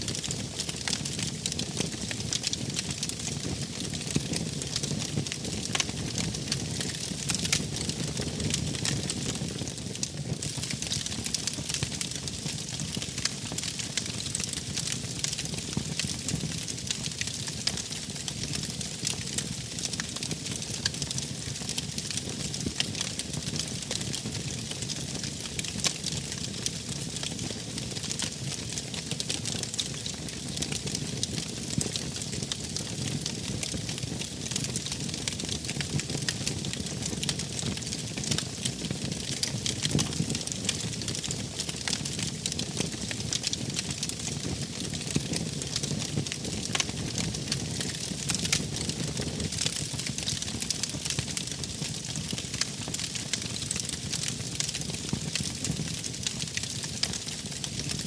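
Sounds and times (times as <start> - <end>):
rumble of burning flames: 0.1 - 58.0
wood fire crackling: 0.1 - 58.0.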